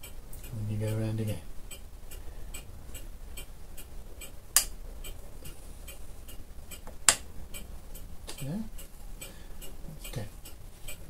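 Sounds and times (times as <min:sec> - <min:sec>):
fast faint ticking: 0:00.0 - 0:11.0.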